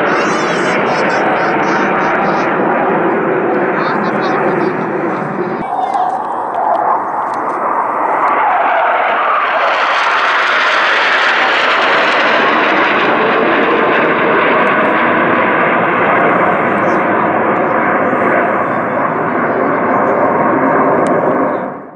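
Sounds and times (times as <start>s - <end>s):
jet roar overhead: 0.0s - 21.9s.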